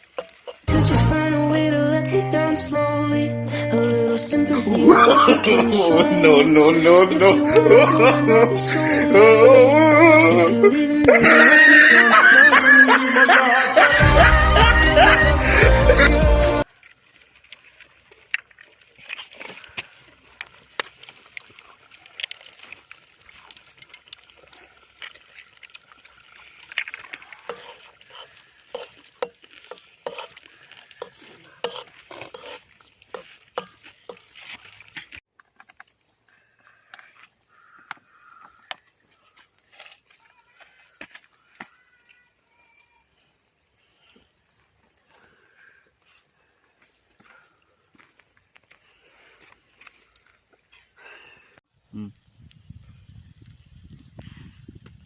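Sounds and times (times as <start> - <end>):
faint outdoor background: 0.0 - 22.0, 22.6 - 55.0.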